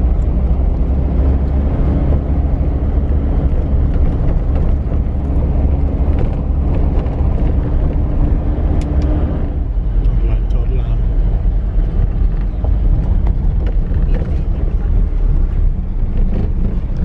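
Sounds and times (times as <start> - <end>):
constant hum: 0.0 - 17.0
vehicle engine and tyres rumbling: 0.0 - 17.0.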